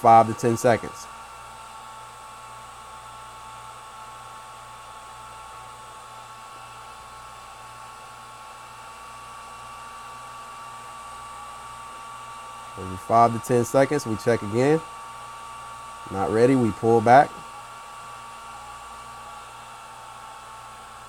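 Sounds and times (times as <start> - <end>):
faint steady whine: 0.0 - 21.0
hot air blower hiss: 0.0 - 21.0.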